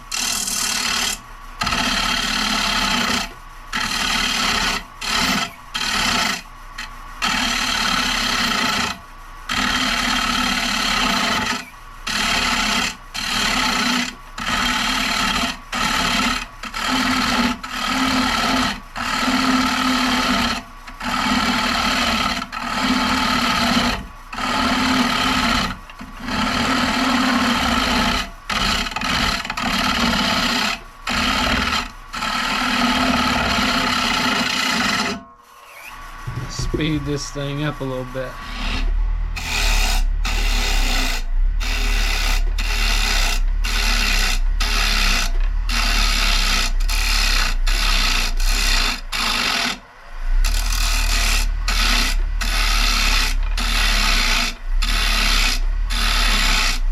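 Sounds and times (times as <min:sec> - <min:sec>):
lathe tool scraping wood: 0:00.0 - 0:56.9.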